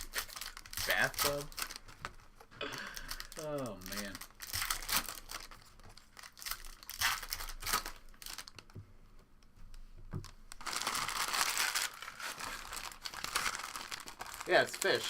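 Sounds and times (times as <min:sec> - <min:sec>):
wrappers tearing and crinkling: 0:00.0 - 0:02.2, 0:02.9 - 0:08.7, 0:10.5 - 0:15.0.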